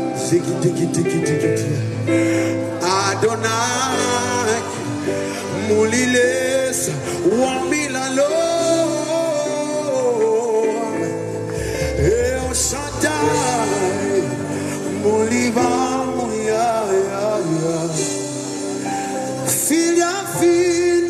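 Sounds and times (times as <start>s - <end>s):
band accompaniment: 0.0s - 21.0s
man singing: 0.0s - 21.0s.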